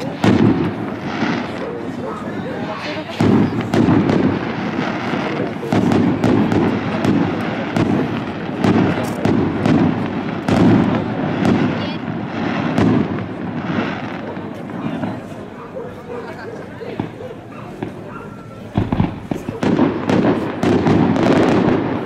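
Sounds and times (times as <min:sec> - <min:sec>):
firework shells booming: 0:00.0 - 0:15.5, 0:17.0 - 0:22.0
firework cracks: 0:00.0 - 0:15.6, 0:17.0 - 0:22.0.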